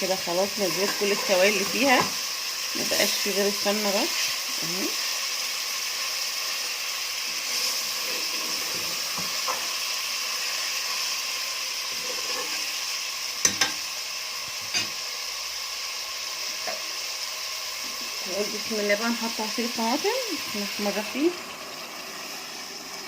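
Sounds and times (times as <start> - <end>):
meat frying sizzle: 0.0 - 23.0.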